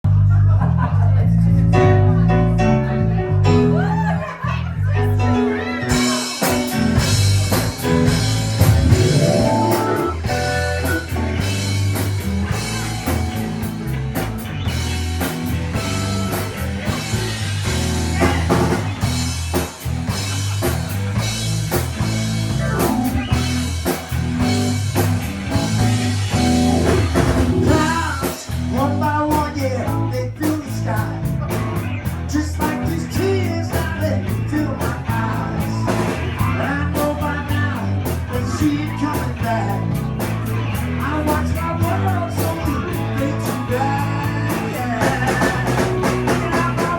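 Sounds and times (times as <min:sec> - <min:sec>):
electric guitar: 0:00.1 - 0:46.9
drum kit beat: 0:05.3 - 0:46.9.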